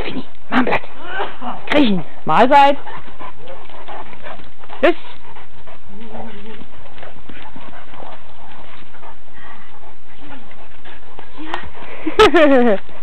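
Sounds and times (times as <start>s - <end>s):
dogs scuffling and paw steps: 0.0s - 13.0s.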